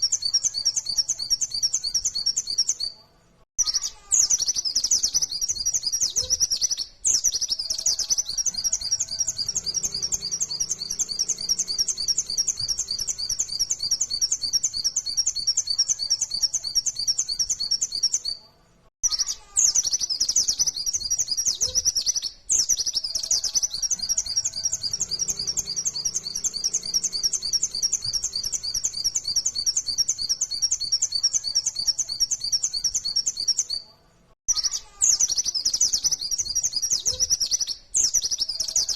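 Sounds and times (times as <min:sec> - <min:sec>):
bird chirping rapidly: 0:00.0 - 0:02.9, 0:03.6 - 0:18.4, 0:19.0 - 0:33.8, 0:34.5 - 0:38.9.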